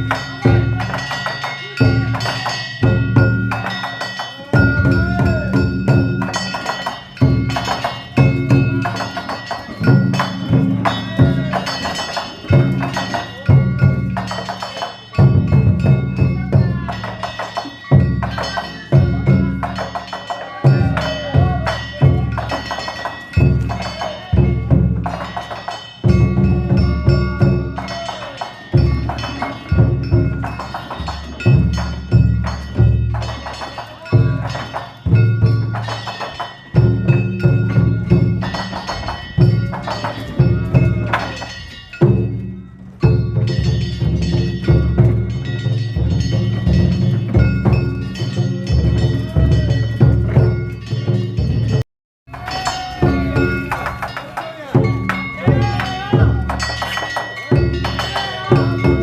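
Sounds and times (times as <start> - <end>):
big drum struck rhythmically: 0.0 - 59.0
small hand gongs clanging: 0.0 - 59.0.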